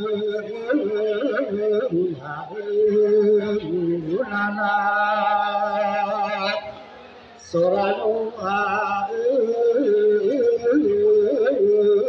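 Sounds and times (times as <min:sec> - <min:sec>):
man chanting with vibrato: 0:00.0 - 0:12.0.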